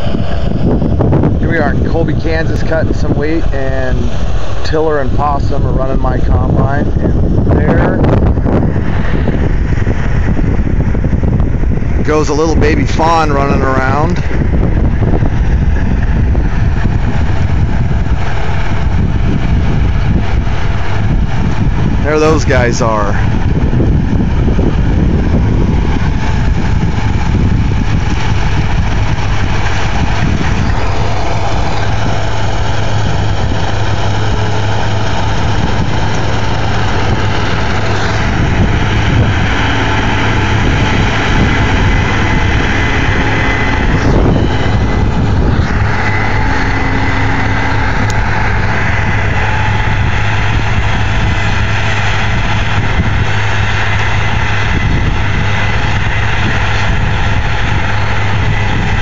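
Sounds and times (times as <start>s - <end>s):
heavy vehicle engine droning: 0.0s - 59.0s.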